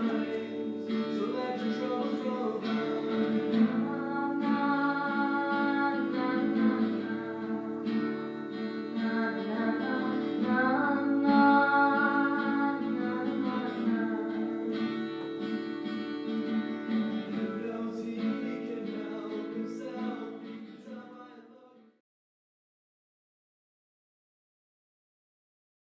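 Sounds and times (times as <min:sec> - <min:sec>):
acoustic guitar strumming: 0:00.0 - 0:21.7
person singing: 0:00.0 - 0:21.9.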